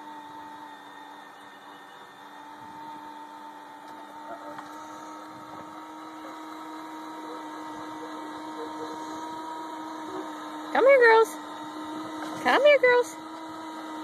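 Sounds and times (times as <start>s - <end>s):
electric screwdriver motor whining: 0.0s - 14.0s.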